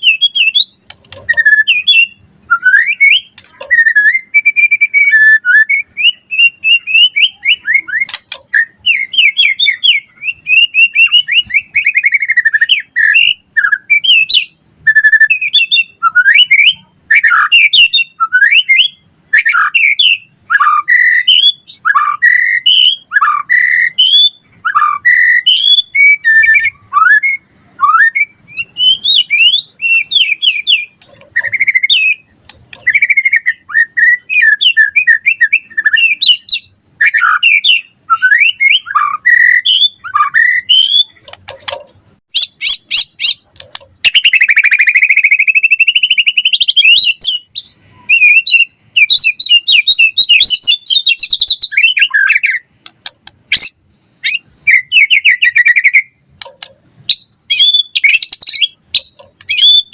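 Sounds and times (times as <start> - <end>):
songbird singing whistled phrases: 0.0 - 41.4, 42.3 - 52.7, 53.5 - 56.2, 57.1 - 59.9.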